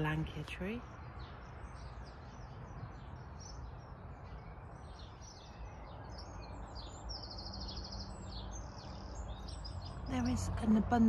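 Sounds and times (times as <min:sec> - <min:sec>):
birds singing and chirping: 0:00.0 - 0:11.0
low outdoor rush: 0:00.0 - 0:11.0.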